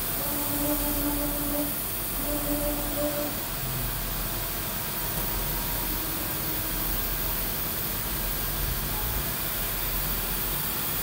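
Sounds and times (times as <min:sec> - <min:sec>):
milling machine hissing: 0:00.0 - 0:11.0.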